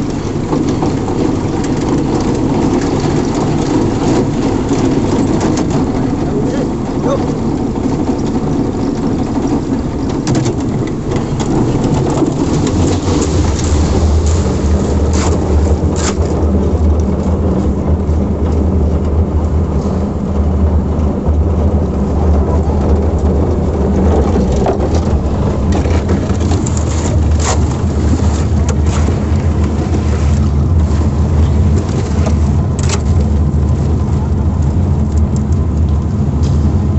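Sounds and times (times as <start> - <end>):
engine running with low drone: 0.0 - 36.9.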